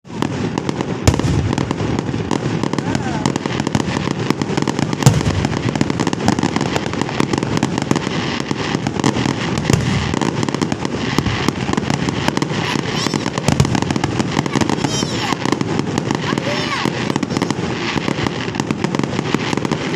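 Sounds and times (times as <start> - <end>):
fireworks crackling pops: 0.0 - 19.9
firework bang: 0.1 - 19.9.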